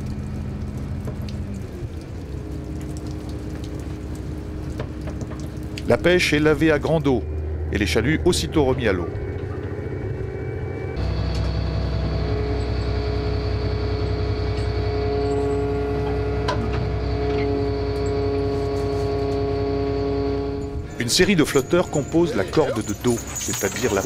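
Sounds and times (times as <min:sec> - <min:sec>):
engine and winch drone: 0:00.0 - 0:24.0
whining tones: 0:00.0 - 0:24.0.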